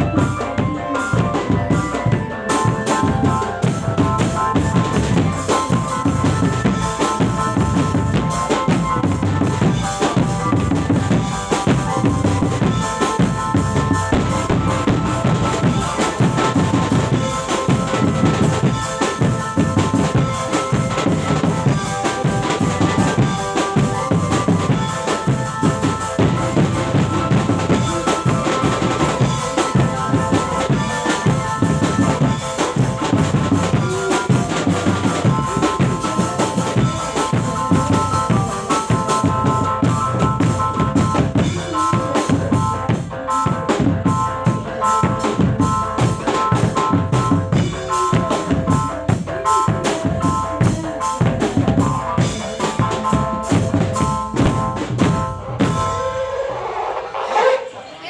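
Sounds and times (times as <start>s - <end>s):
fast dense drumming: 0.0s - 56.4s
held melody line: 0.0s - 57.7s.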